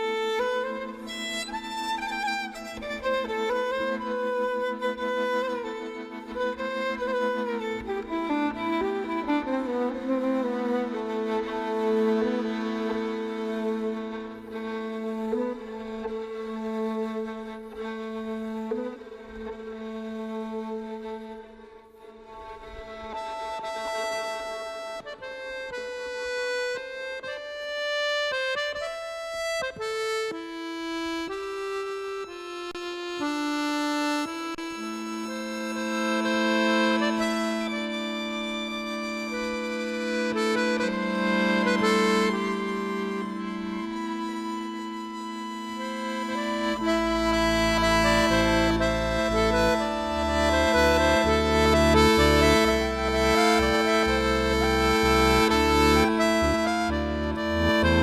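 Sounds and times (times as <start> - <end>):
accordion playing slow melody: 0.0 - 58.0.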